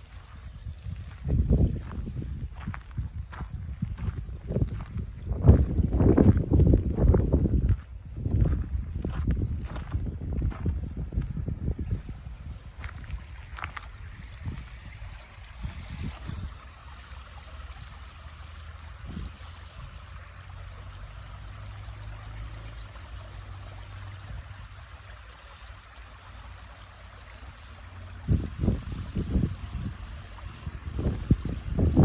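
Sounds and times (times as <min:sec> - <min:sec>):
stream burbling: 0:00.0 - 0:03.3, 0:04.0 - 0:32.0.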